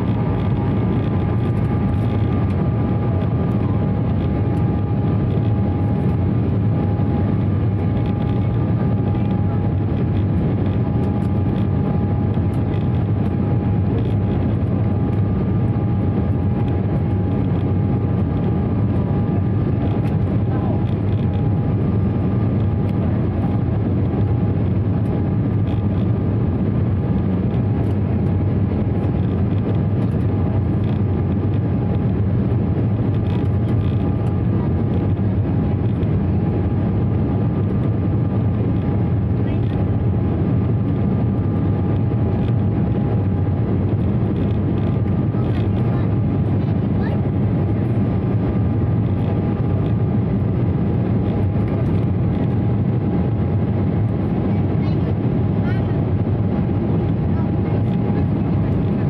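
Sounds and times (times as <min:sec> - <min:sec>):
airflow over fuselage: 0:00.0 - 0:59.0
faint steady whine: 0:00.0 - 0:59.0
jet engines roaring: 0:00.0 - 0:59.0.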